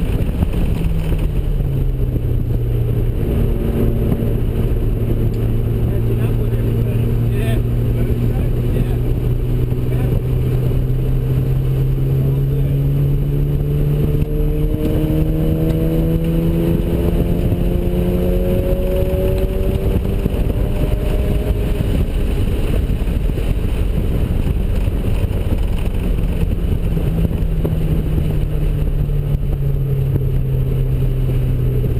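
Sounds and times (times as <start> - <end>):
rotary engine droning: 0.0 - 31.9.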